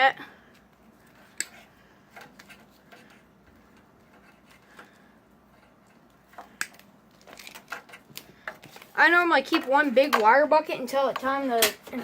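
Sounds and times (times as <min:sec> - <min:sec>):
wiring rustling: 0:00.5 - 0:12.0.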